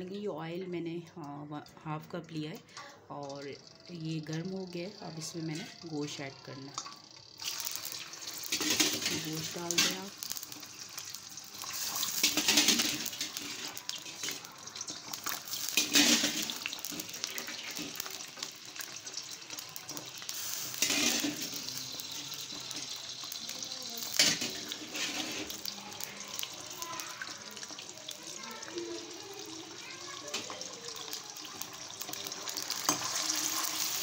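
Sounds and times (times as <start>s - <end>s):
meat sizzling in hot oil: 1.6s - 34.0s.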